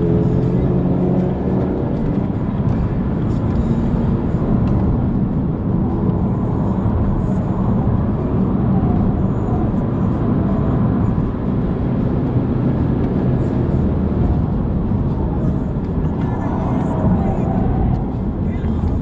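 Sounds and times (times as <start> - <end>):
car engine drone: 0.0 - 19.0
road and wind noise: 0.0 - 19.0.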